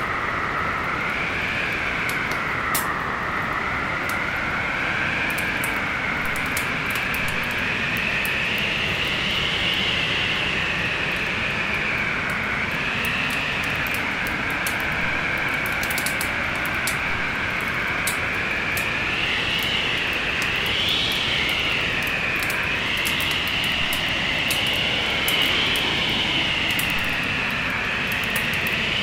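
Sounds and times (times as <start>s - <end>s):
storm wind roaring: 0.0s - 29.0s
wood fire crackling and popping: 0.0s - 29.0s.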